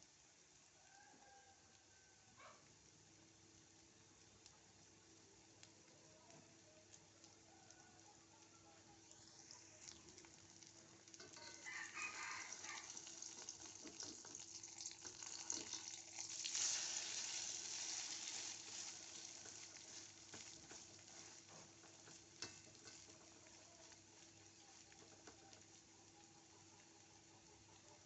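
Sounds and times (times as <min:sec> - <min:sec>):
food sizzling in hot oil: 0:03.1 - 0:28.0.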